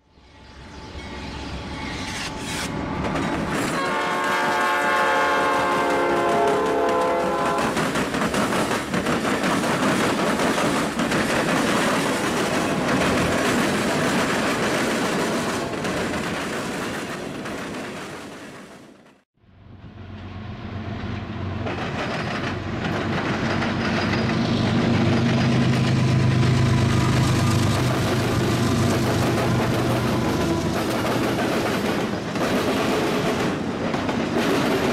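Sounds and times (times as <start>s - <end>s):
diesel locomotive engine drone: 0.0s - 16.4s, 19.4s - 34.9s
freight train rolling past: 0.0s - 34.9s.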